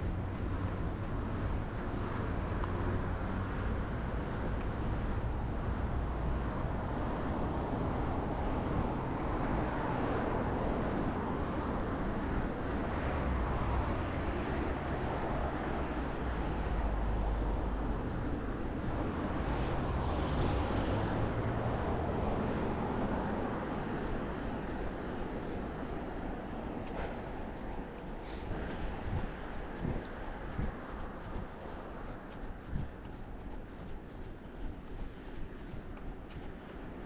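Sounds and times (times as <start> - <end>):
outdoor rumble and hiss: 0.0 - 37.0.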